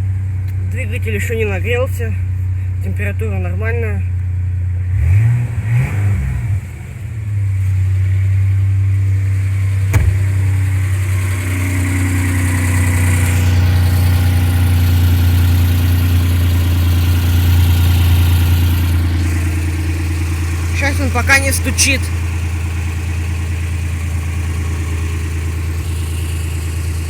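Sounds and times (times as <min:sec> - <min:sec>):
car engine idling: 0:00.0 - 0:05.3, 0:06.6 - 0:27.0.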